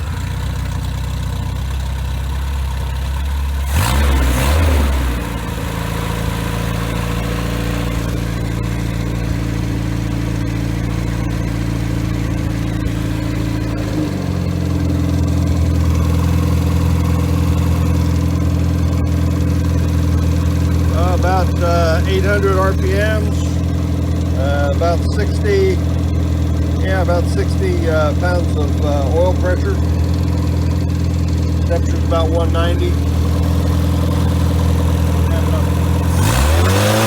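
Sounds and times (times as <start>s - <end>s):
car engine revving and idling: 0.0s - 37.0s.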